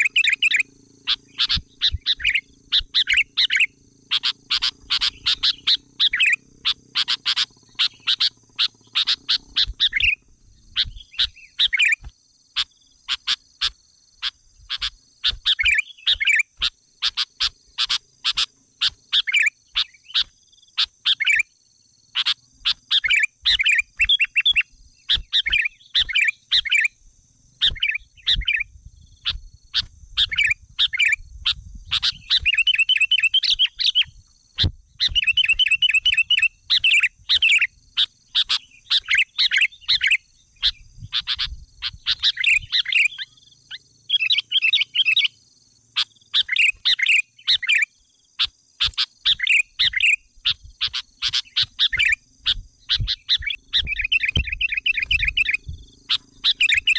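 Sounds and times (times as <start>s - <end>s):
small bird chirping: 0.0s - 56.9s.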